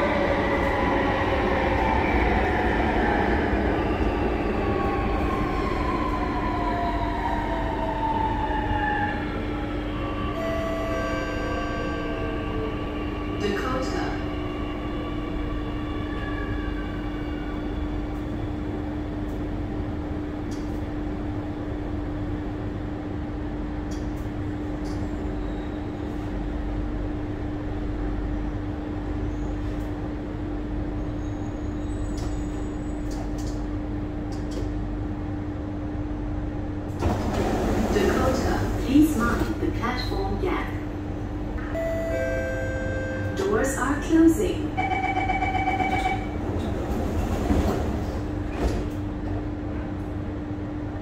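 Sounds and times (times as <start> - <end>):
train carriage interior hum: 0.0 - 51.0.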